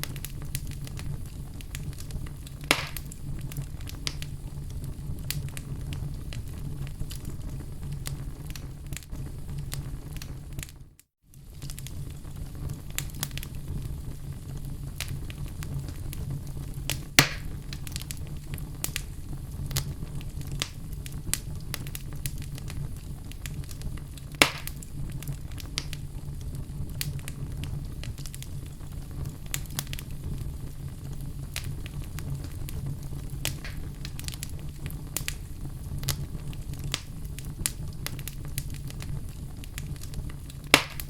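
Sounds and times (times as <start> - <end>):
fire rumbling and crackling: 0.0 - 41.0
loud fire pops: 0.0 - 41.0.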